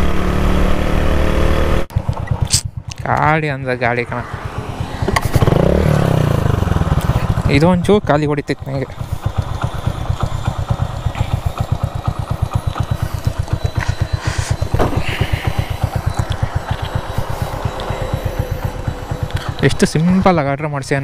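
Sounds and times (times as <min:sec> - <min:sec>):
motorcycle engine idling: 0:01.9 - 0:21.0.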